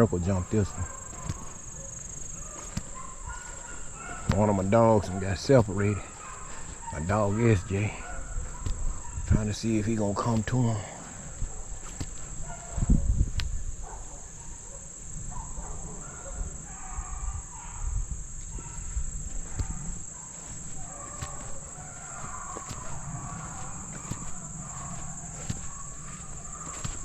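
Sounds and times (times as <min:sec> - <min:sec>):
distant hounds baying: 0:00.0 - 0:27.0
insects droning: 0:00.0 - 0:27.0.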